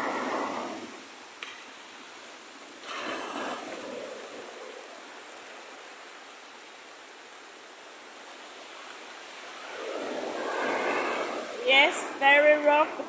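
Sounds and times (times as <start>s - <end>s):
sea surf breaking on beach: 0.0s - 13.0s.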